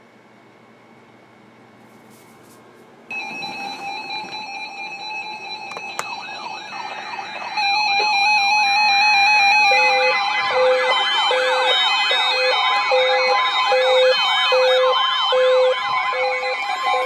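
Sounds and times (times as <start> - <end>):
warbling siren-like alarm tones: 3.1 - 17.0.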